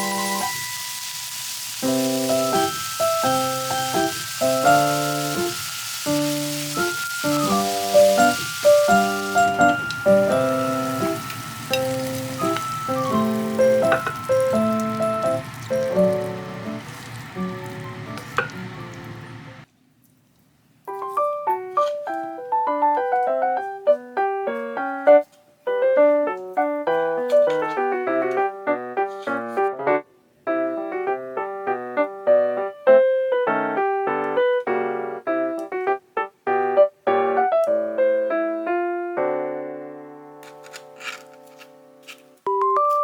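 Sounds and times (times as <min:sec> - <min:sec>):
plucky piano melody: 0:00.0 - 0:19.7, 0:20.9 - 0:40.5, 0:42.5 - 0:43.0.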